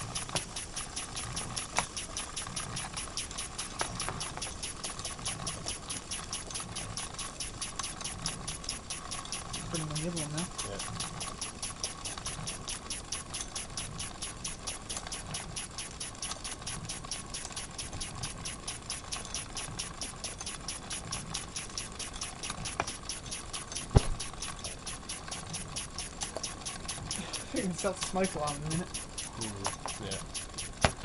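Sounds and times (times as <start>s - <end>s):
steam engine exhaust puffing: 0.0s - 31.0s.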